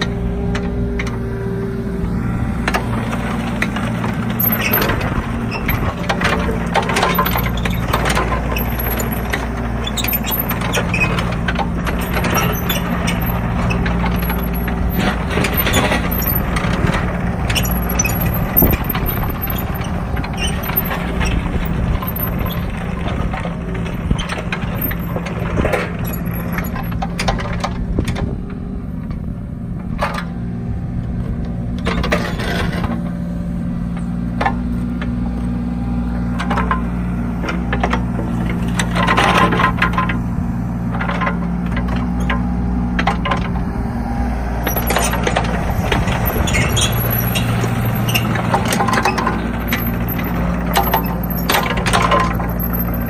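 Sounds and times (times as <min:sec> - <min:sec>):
excavator diesel engine running: 0:00.0 - 0:53.0
tracks clanking and scraping on gravel: 0:00.0 - 0:53.0.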